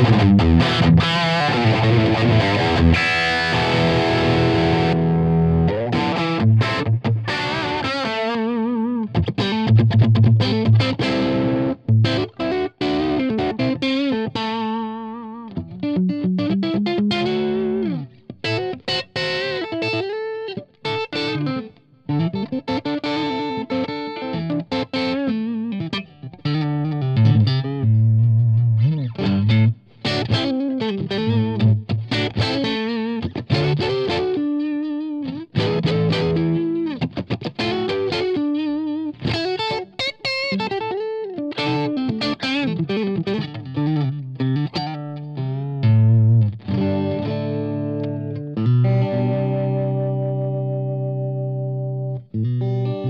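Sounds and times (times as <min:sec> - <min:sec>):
distorted electric guitar: 0:00.0 - 0:53.0.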